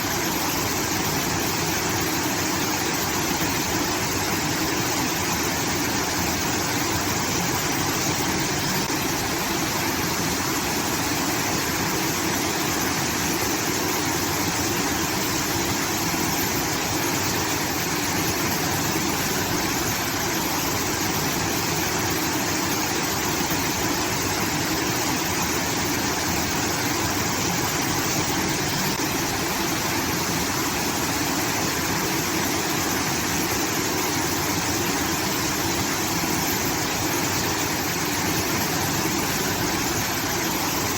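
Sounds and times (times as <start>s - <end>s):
water rushing through channel: 0.0s - 40.9s.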